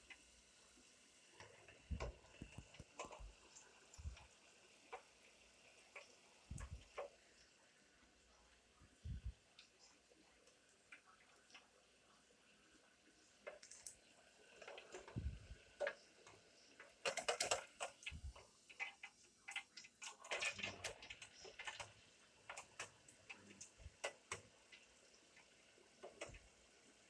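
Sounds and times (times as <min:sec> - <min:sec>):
fries crackling in hot oil: 0:00.0 - 0:27.0.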